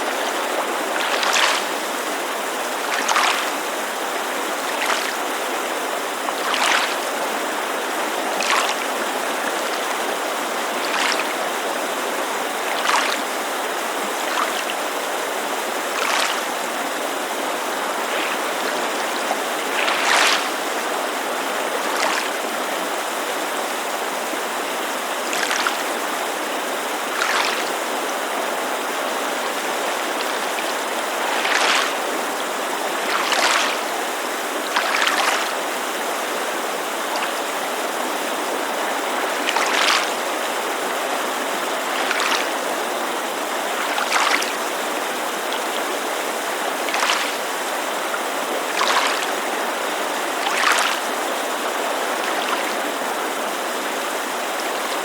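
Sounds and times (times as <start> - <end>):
mountain creek rushing: 0.0 - 55.0
water lapping against shore: 0.0 - 55.0.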